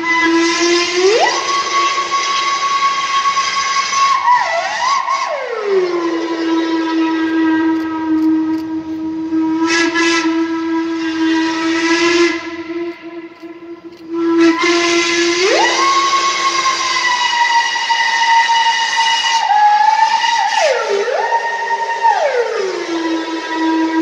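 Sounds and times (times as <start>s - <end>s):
higher whistle note wavering: 0.0s - 24.0s
steam hiss: 0.0s - 24.0s
steam locomotive whistle: 0.0s - 24.0s.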